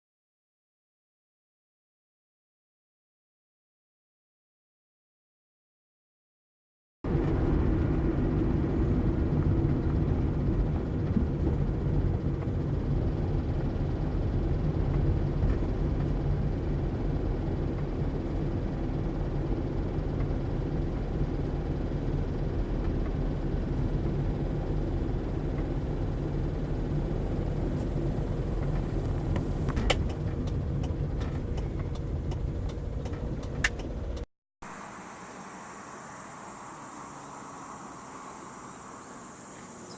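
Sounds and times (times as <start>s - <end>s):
engine rumbling: 7.0s - 39.9s.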